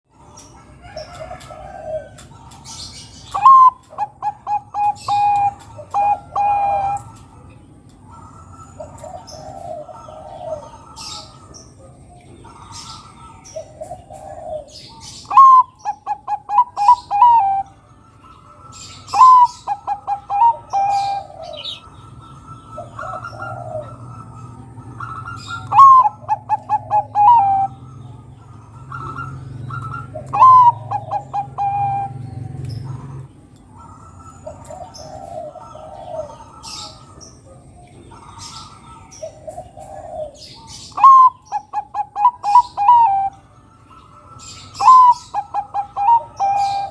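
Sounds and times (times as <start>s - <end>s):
dove singing coos: 0.2s - 46.9s.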